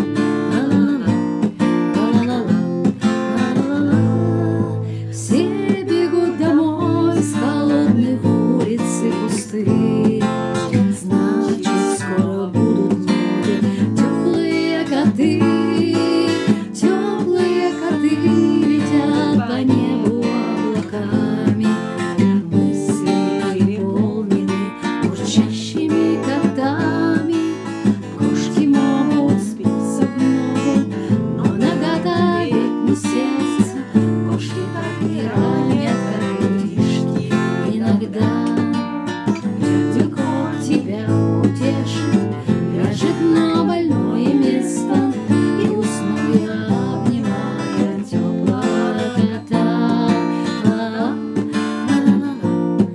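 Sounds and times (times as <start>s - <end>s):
acoustic guitar strumming: 0.0s - 52.9s
woman singing: 0.0s - 52.9s.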